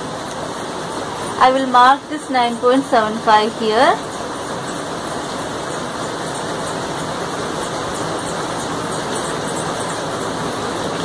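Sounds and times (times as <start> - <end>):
rushing background noise: 0.0 - 11.0.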